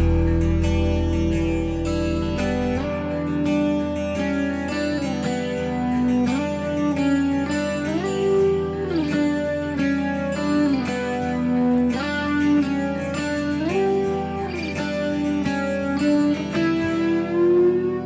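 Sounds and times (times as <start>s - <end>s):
sliding guitar melody: 0.0s - 18.0s
steady held chords: 0.0s - 18.0s.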